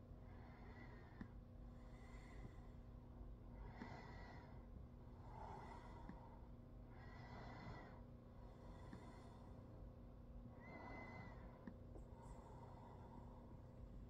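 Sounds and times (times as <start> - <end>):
faint low hum: 0.0 - 14.0
faint breathing: 0.2 - 14.0.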